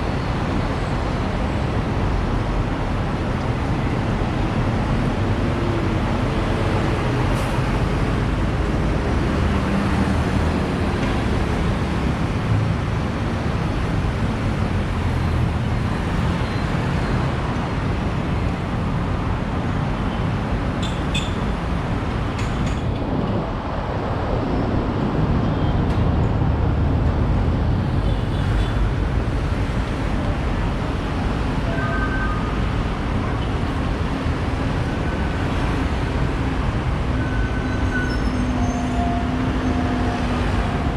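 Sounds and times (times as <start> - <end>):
road traffic rumbling: 0.0 - 40.9.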